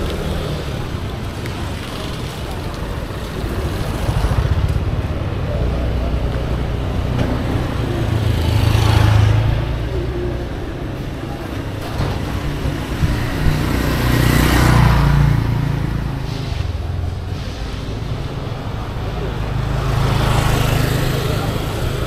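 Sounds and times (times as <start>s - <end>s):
traffic rumble: 0.0s - 22.0s
vehicles passing by: 0.0s - 22.0s.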